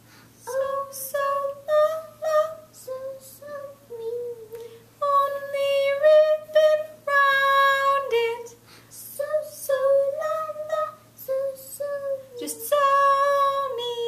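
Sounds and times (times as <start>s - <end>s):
child singing: 0.4s - 14.0s.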